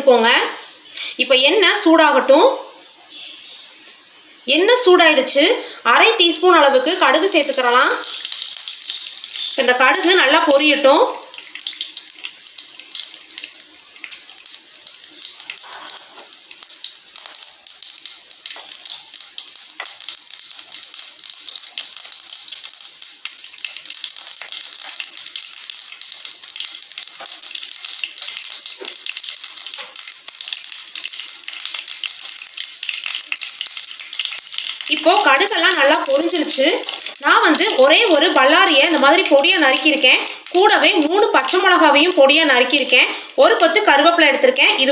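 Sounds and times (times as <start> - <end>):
seeds sizzling and popping in oil: 0.4 - 44.9.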